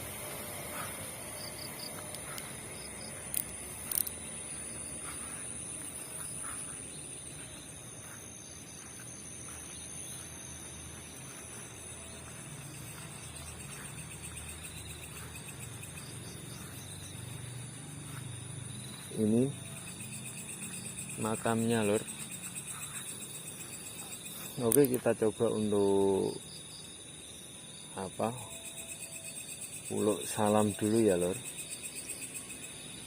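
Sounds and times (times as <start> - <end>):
crickets chirring: 0.0 - 33.0
pulsing insect trill: 0.0 - 33.0.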